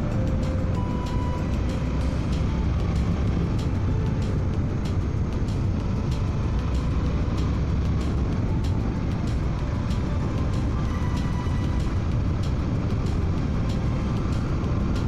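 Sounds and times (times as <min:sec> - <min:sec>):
motorcycle engine cruising: 0:00.0 - 0:15.0
wind rushing on microphone: 0:00.0 - 0:15.0.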